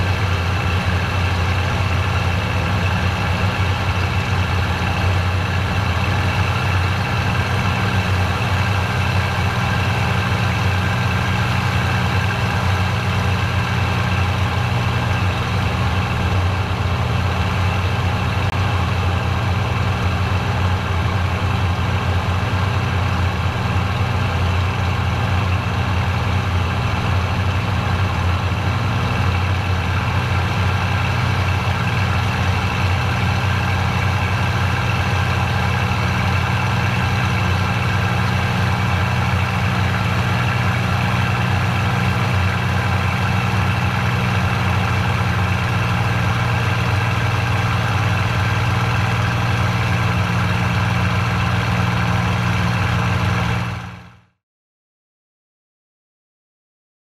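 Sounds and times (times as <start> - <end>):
aircraft piston engine droning: 0.0 - 53.9.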